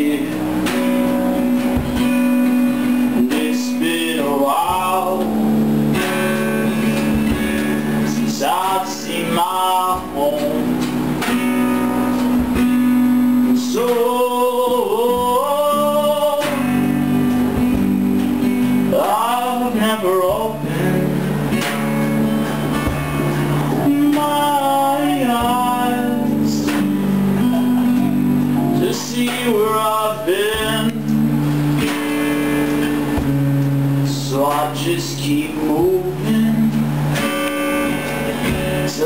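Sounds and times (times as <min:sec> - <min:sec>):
guitars playing steady chords: 0:00.0 - 0:39.0.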